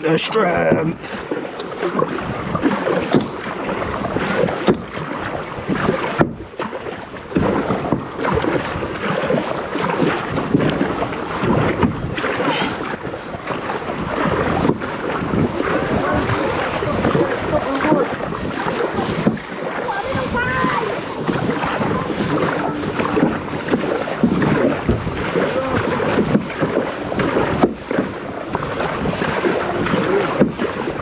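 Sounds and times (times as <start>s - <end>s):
paddles splashing in water: 0.0s - 31.0s
wind buffeting microphone: 0.0s - 31.0s.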